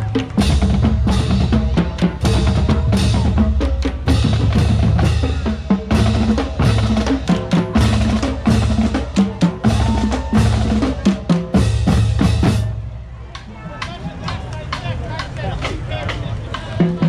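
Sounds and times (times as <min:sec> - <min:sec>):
bass and snare drums beating: 0:00.0 - 0:17.0.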